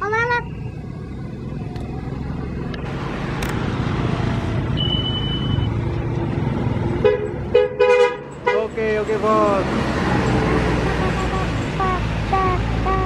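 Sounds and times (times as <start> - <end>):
bus driving past: 0.4 - 7.6, 8.2 - 13.0.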